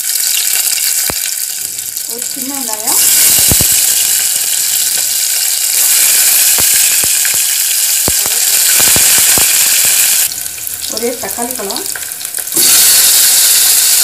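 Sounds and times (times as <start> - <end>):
crackling pops: 0.0 - 14.0
food frying in hot oil: 0.0 - 14.0.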